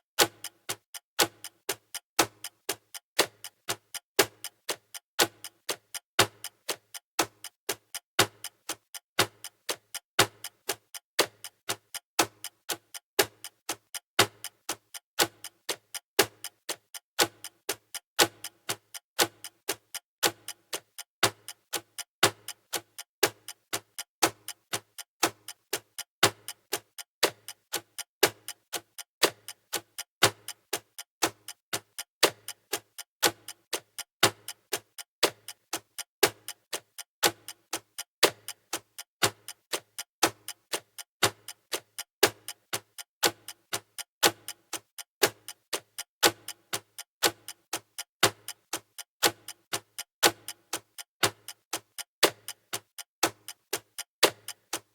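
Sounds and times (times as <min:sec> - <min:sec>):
countdown timer ticking: 0:00.2 - 0:54.9.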